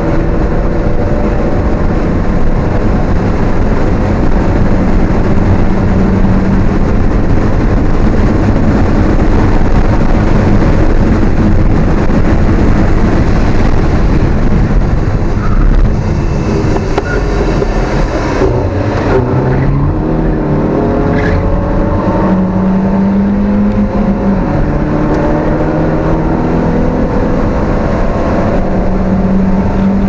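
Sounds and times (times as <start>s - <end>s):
car engine at high revs: 0.0s - 30.0s
wind noise: 0.0s - 30.0s.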